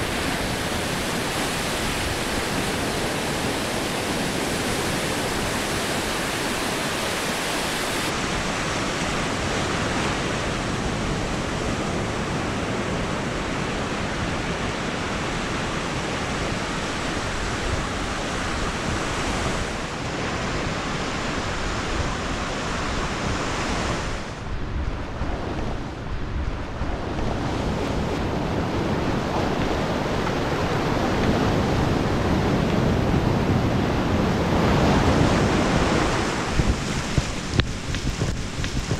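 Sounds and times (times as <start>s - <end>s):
ocean surf breaking: 0.0s - 38.9s
wind buffeting microphone: 0.0s - 38.9s.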